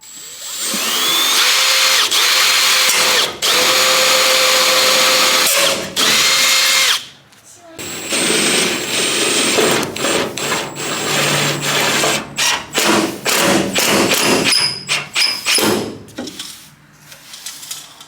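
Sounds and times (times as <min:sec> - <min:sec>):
power drill whining: 0:00.0 - 0:07.1, 0:07.8 - 0:15.6.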